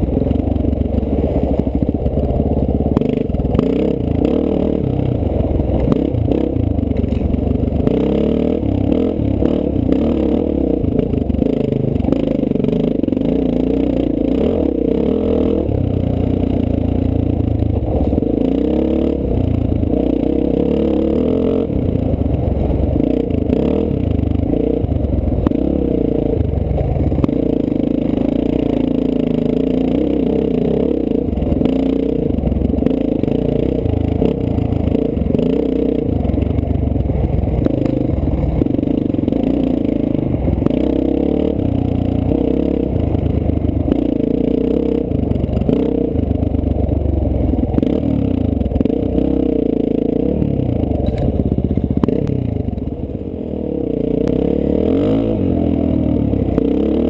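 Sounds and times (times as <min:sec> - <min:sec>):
dirt bike engine revving: 0:00.0 - 0:46.9, 0:47.6 - 0:57.0.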